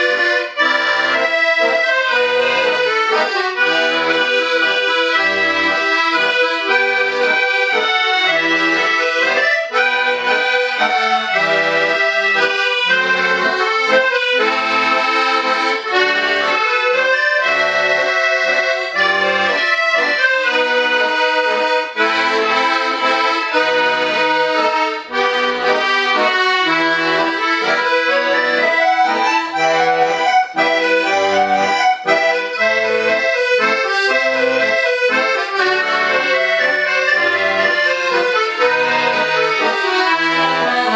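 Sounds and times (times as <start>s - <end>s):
accordions playing folk music: 0.0s - 40.9s.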